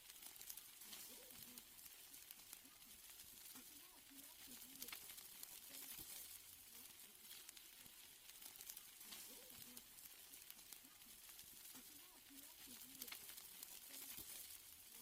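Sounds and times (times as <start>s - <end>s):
steaks sizzling on a grill: 0.0s - 15.0s.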